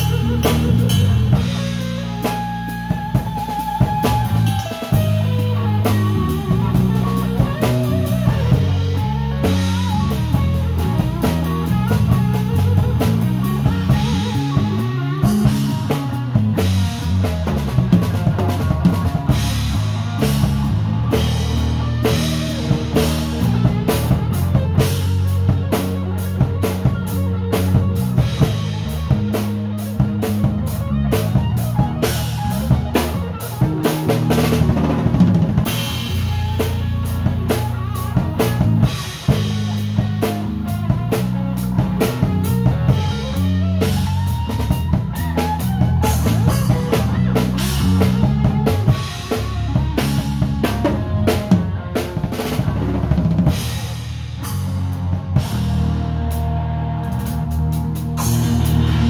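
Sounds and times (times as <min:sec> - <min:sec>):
drum kit: 0:00.0 - 0:59.0
live rock band playing: 0:00.0 - 0:59.0.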